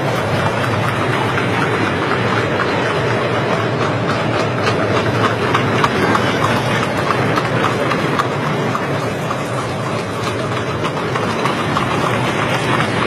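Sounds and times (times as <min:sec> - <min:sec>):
carriage wheels rumbling on road: 0:00.0 - 0:13.0
horse hooves clip-clopping: 0:00.0 - 0:13.0.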